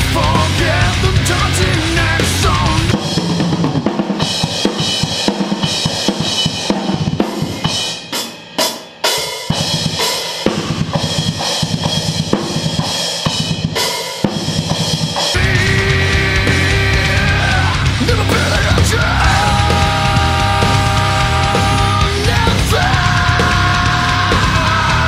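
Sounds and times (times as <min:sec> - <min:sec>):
rock band mix: 0:00.0 - 0:25.0
rock drum beat: 0:00.0 - 0:25.0.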